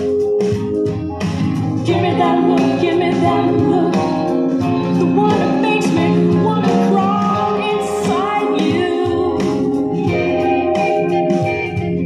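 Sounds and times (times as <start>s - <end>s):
pop song over speakers: 0.0s - 12.0s.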